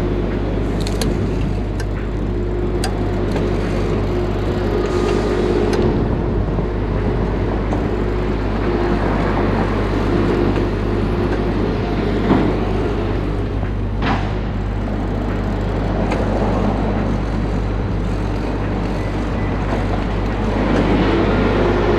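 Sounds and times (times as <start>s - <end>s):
faint wavering hum: 0.0s - 21.9s
wind and road noise: 0.0s - 21.9s.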